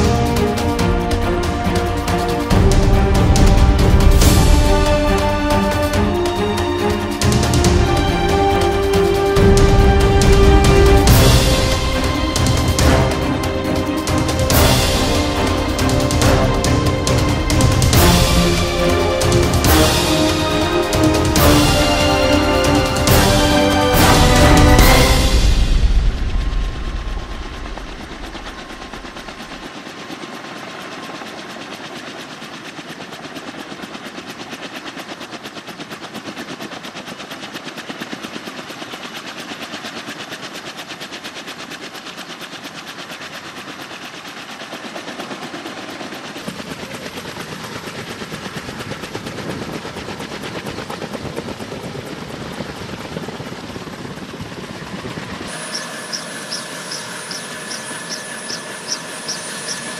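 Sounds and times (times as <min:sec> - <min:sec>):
helicopter rotor chop: 0:00.0 - 0:59.9.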